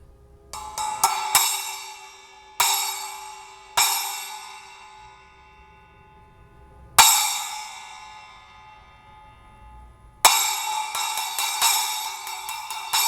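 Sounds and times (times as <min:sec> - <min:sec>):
splash cymbal struck: 0:00.6 - 0:13.0.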